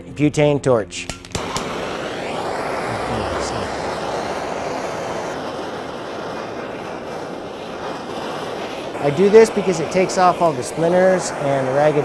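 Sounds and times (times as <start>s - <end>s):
butane torch flame hissing: 1.2s - 12.0s.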